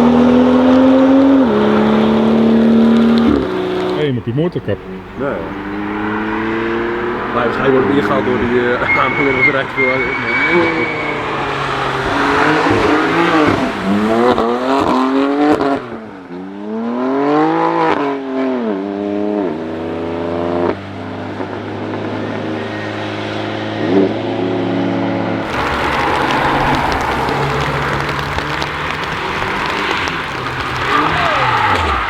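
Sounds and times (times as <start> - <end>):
race cars accelerating past: 0.0 - 32.0.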